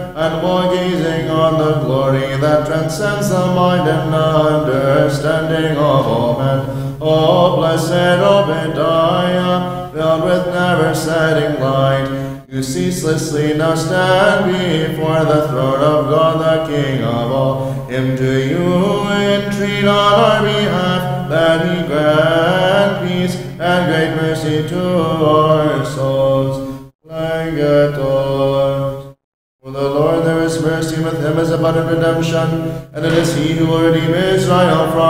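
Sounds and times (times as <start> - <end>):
men singing liturgical chant: 0.0 - 35.0.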